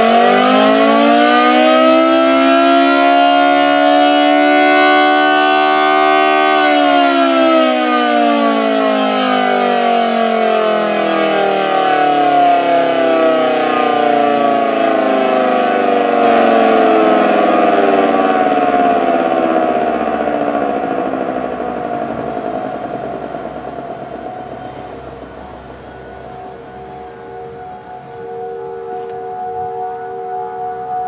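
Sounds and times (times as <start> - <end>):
warning siren winding down: 0.0 - 31.0.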